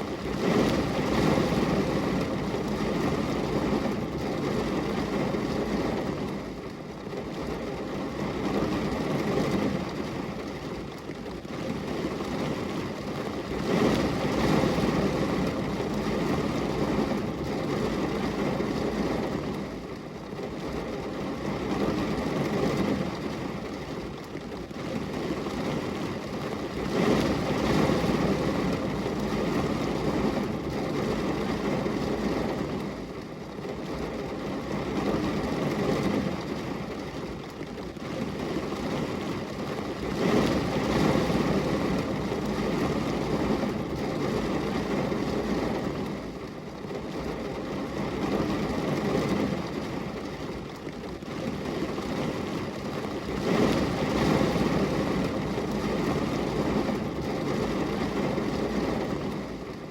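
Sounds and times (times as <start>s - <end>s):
rain on window glass: 0.0s - 59.9s.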